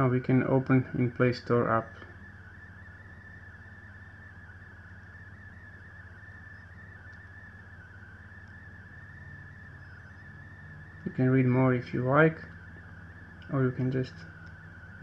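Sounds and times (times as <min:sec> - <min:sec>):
high whine: 0:00.0 - 0:15.0
low electrical hum: 0:00.0 - 0:15.0.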